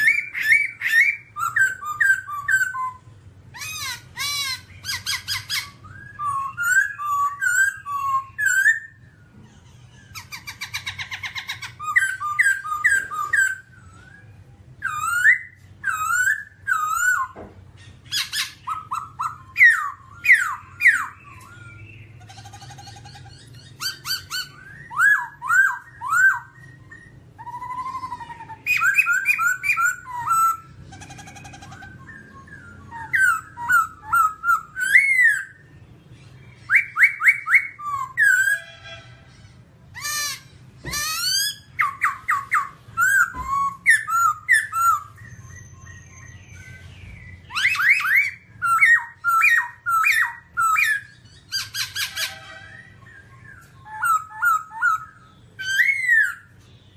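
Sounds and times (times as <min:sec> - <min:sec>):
bird singing whistled phrases: 0:00.0 - 0:09.4, 0:10.2 - 0:30.8, 0:31.4 - 0:38.7, 0:40.0 - 0:56.7.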